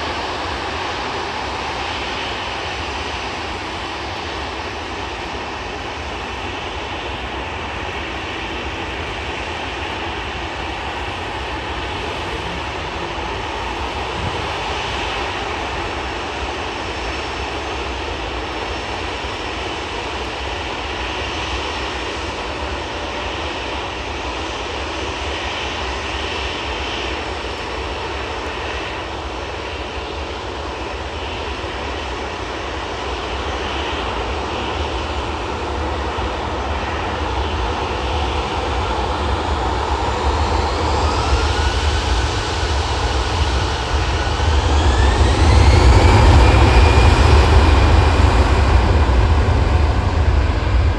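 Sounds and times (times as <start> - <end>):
jet engines at take-off thrust: 0.0 - 50.9.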